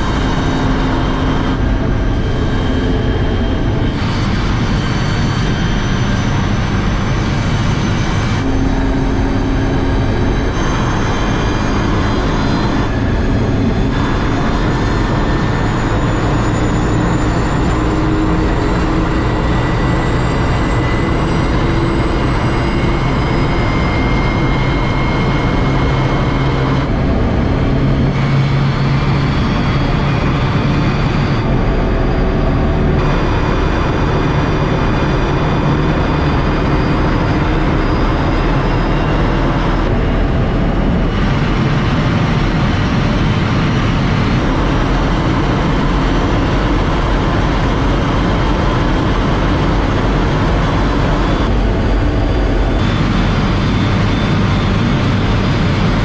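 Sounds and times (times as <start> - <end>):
wind and tyre noise: 0.0 - 56.0.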